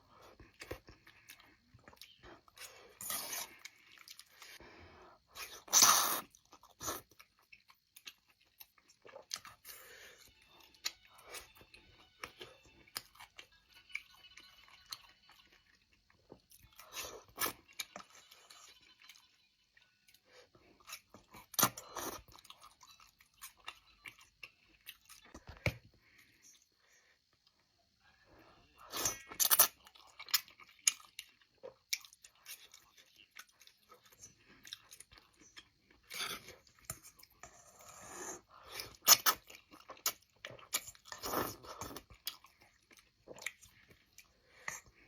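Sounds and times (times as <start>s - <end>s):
person chewing and crunching food: 0.0s - 27.8s, 28.4s - 45.0s.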